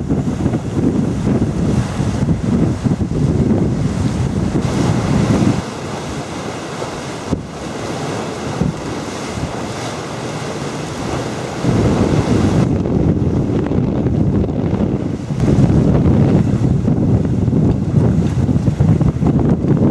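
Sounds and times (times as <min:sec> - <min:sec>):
water rushing along hull: 0:00.0 - 0:19.9
wind buffeting microphone: 0:00.0 - 0:19.9.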